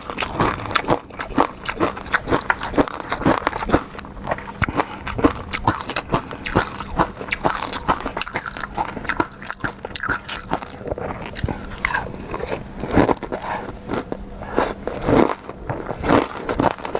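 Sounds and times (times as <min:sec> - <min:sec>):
person chewing with wet clicks: 0:00.0 - 0:16.9.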